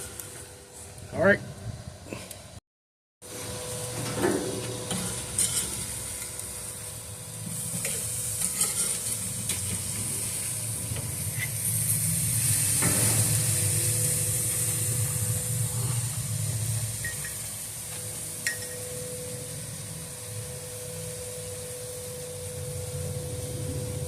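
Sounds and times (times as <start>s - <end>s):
chicken sizzling on a grill: 3.2s - 24.0s.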